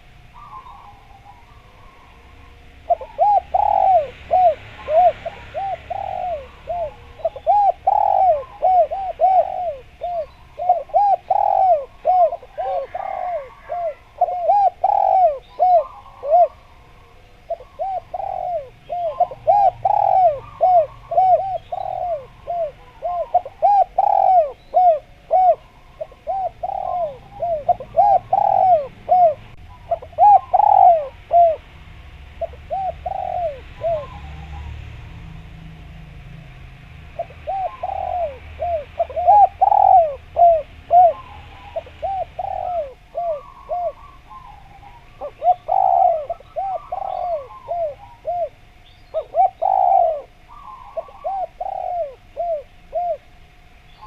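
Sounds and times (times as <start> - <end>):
dove cooing: 0.0 - 35.3, 37.1 - 54.0.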